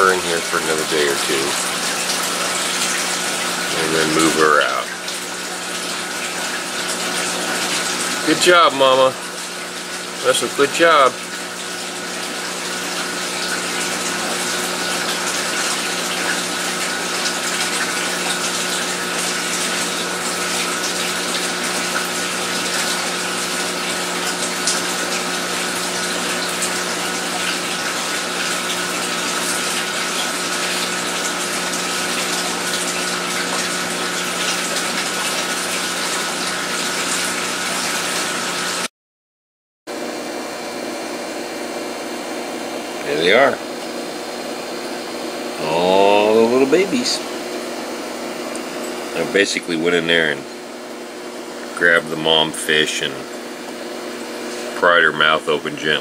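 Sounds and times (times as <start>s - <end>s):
aquarium water pump running: 0.0s - 38.9s, 39.9s - 56.0s.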